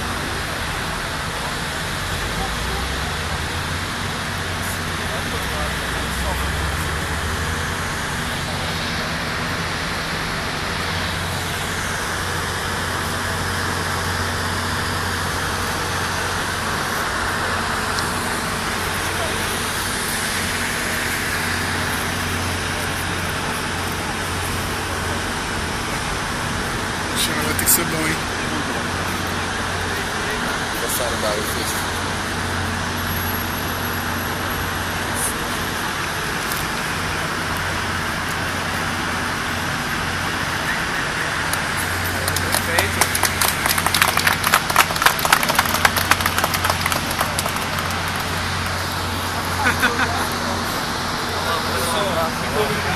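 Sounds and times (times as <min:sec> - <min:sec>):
continuous rushing haze: 0:00.0 - 0:52.9
outdoor background roar: 0:00.0 - 0:52.9.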